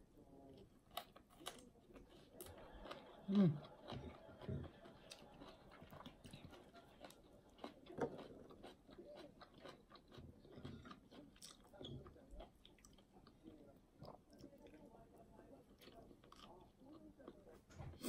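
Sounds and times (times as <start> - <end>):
chewing and lip-smacking: 0.9 - 14.9, 15.6 - 17.4.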